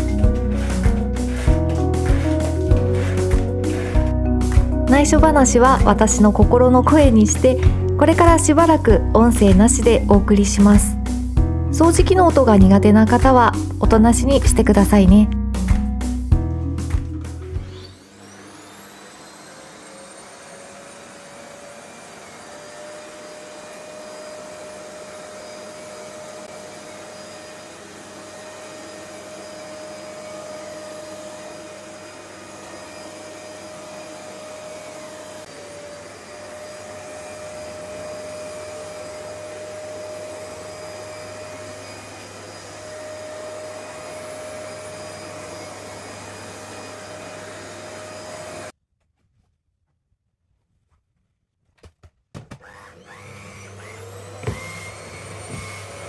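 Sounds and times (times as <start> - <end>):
vacuum cleaner running: 0.0 - 48.8, 52.4 - 56.0.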